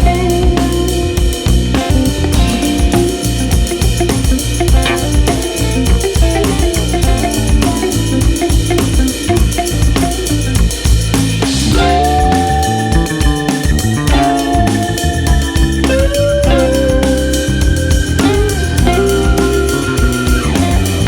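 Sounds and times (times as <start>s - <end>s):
bass and guitar notes: 0.0s - 21.0s
drum kit beat: 0.0s - 21.0s.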